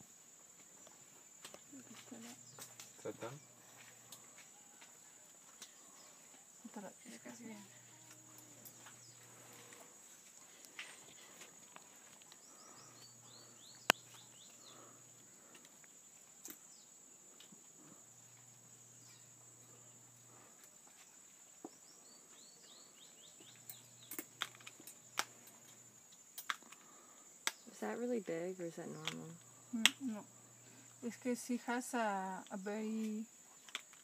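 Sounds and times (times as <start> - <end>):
high-pitched insect drone: 0.8 - 5.1, 5.8 - 10.2, 10.8 - 33.4.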